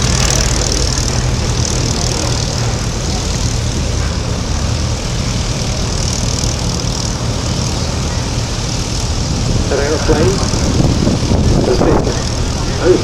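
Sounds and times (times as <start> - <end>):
biplane engine droning: 0.0 - 13.0.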